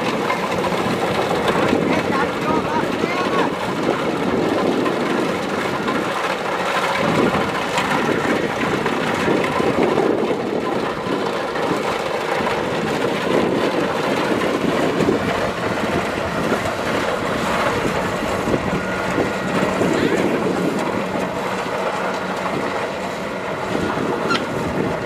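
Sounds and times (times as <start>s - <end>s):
combine harvester engine running: 0.0s - 25.0s.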